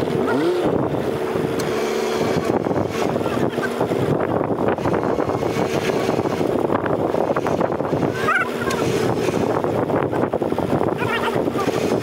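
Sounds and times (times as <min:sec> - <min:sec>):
stream rushing: 0:00.0 - 0:12.0
wind on the microphone: 0:00.0 - 0:12.0.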